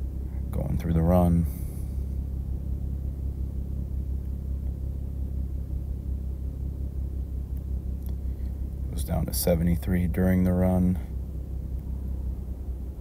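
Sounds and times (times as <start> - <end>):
low rumbling hum: 0.0 - 13.0.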